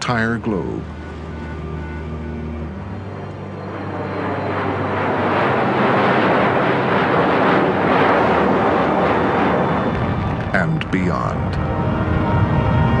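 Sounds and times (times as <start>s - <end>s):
jet airliner taking off: 0.0s - 13.0s.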